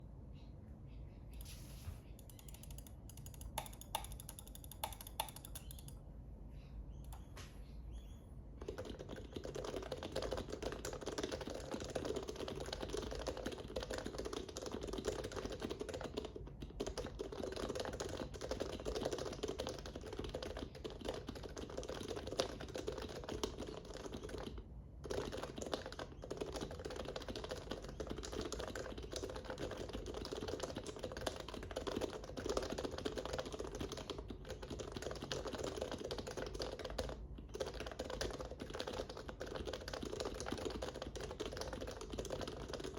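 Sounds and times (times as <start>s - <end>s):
fast typing on keyboard: 2.2s - 6.0s, 8.6s - 42.9s.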